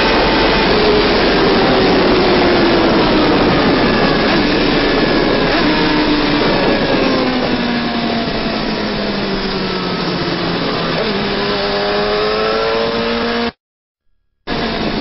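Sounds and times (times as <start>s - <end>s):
wind rush: 0.0s - 12.6s, 14.5s - 15.0s
motorcycle engine high revs: 0.0s - 13.6s.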